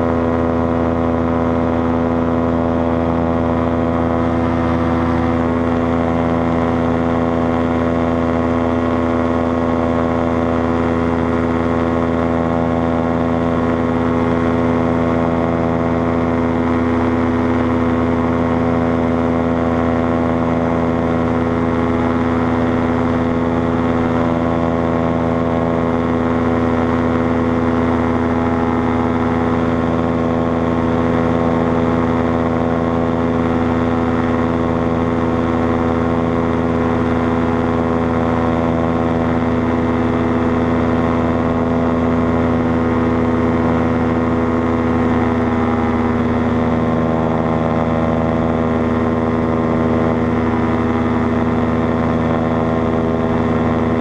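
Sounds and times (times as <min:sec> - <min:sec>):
engine and propeller running: 0:00.0 - 0:54.0.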